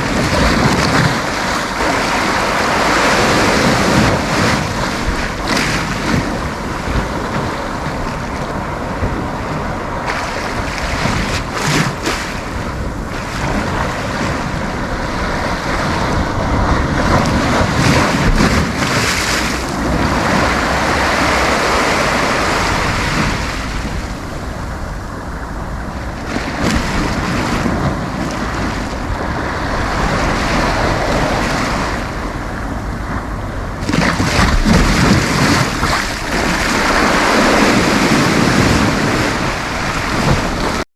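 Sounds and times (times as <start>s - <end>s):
sea waves breaking on beach: 0.0s - 40.8s
wind buffeting microphone: 0.0s - 40.8s.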